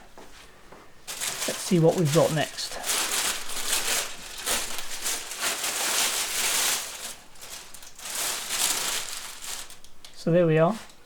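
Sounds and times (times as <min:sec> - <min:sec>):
packaging rustling and crinkling: 0:01.1 - 0:11.0.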